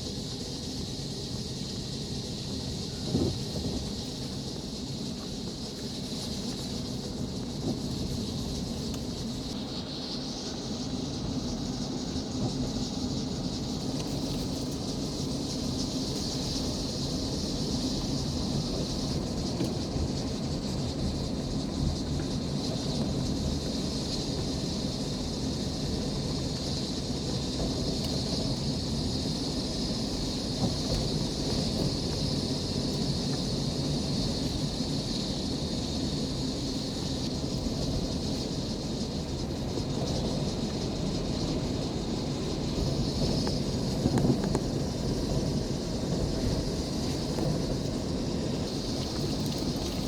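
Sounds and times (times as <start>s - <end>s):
steady high hiss: 0.0s - 50.0s
wind rumbling on microphone: 0.0s - 50.0s.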